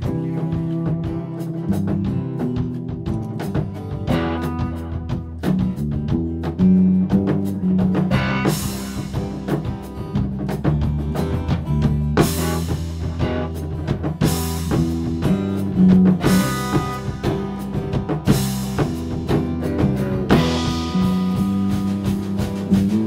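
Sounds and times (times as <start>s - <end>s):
acoustic guitar: 0.0s - 23.0s
drum kit: 0.0s - 23.0s
electric bass: 0.0s - 23.0s.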